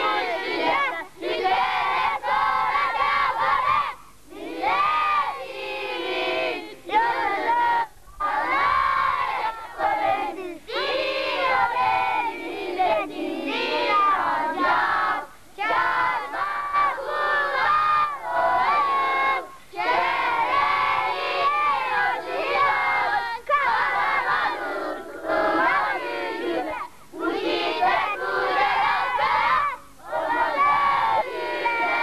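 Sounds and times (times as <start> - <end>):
children singing in unison: 0.0 - 32.0.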